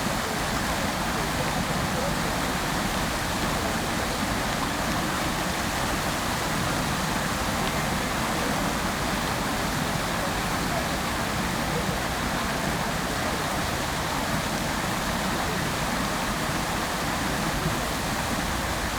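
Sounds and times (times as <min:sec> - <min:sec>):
fountain water splashing: 0:00.0 - 0:18.9.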